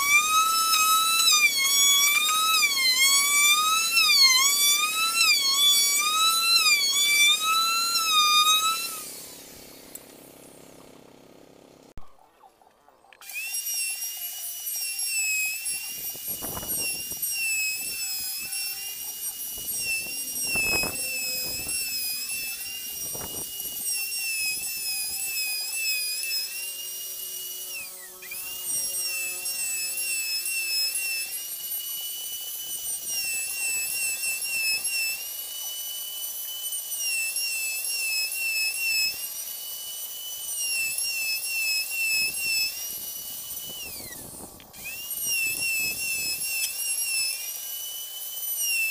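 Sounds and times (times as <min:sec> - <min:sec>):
electric router whining: 0:00.0 - 0:11.6, 0:13.2 - 0:48.9.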